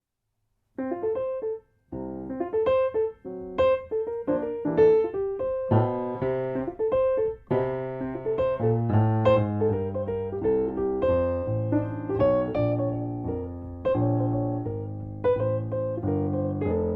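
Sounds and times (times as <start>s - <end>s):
piano music: 0.8s - 16.9s.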